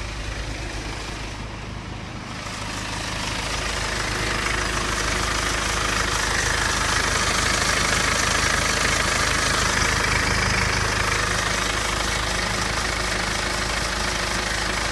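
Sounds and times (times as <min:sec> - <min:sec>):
diesel engine idling: 0:00.0 - 0:14.9
engine scraping rattle: 0:00.0 - 0:14.9.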